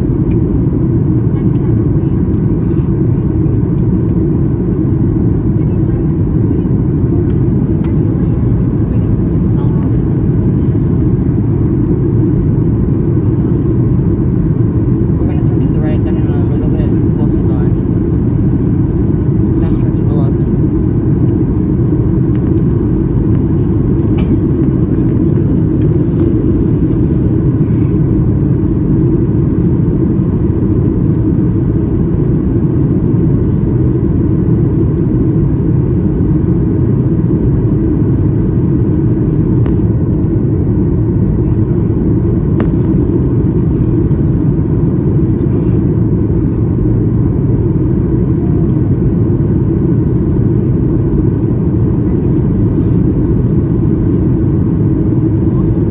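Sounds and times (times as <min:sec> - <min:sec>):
jet engine roar inside cabin: 0:00.0 - 0:55.9.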